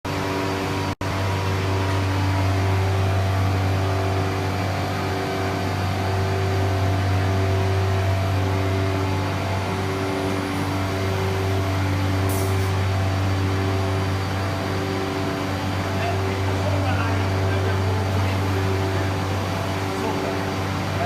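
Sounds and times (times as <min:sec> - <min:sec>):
machine humming: 0:00.1 - 0:21.0.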